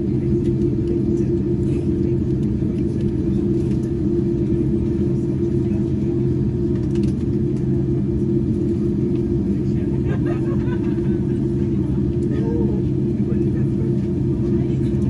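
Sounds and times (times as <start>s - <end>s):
aircraft cabin engine rumble and hum: 0.0s - 15.0s.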